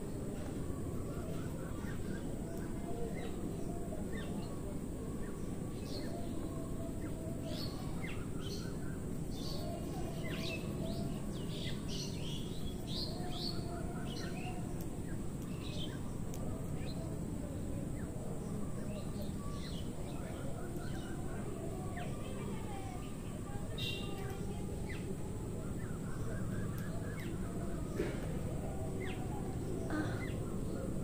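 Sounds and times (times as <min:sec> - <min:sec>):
outdoor background noise: 0:00.0 - 0:31.0
birds chirping: 0:01.1 - 0:31.0.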